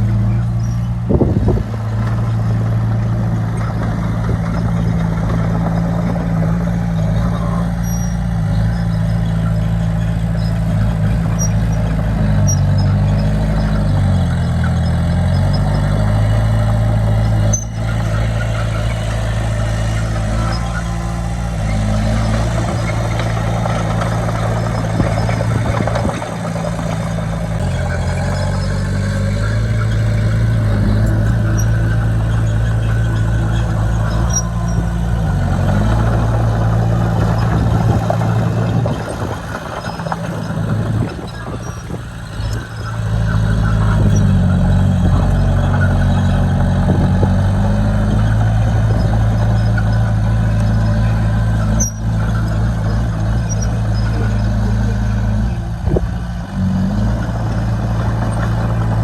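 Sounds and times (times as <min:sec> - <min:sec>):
diesel engine under varying load: 0:00.0 - 0:59.0.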